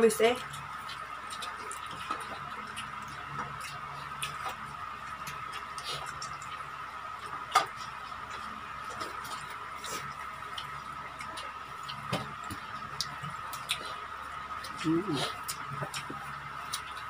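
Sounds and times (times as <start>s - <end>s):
chewing and tearing food: 0.1s - 17.0s.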